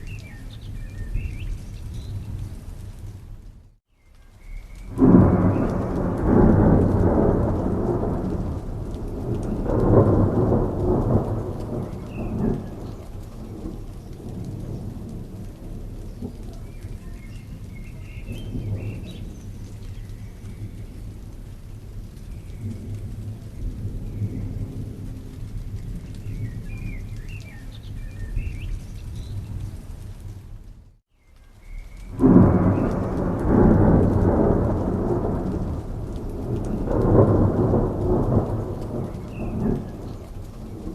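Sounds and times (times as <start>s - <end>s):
thunder rumbling: 0.0s - 3.7s, 4.3s - 40.9s
steady rain: 0.0s - 40.9s.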